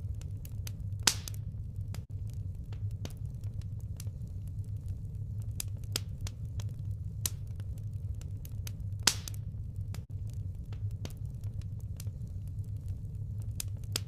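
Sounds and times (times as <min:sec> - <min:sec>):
fire crackling and popping: 0:00.0 - 0:14.0
low hum: 0:00.0 - 0:14.0.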